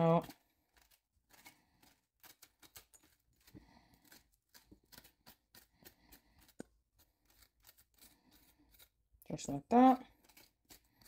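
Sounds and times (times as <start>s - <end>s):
metal spoon scraping squash: 0.0s - 11.0s.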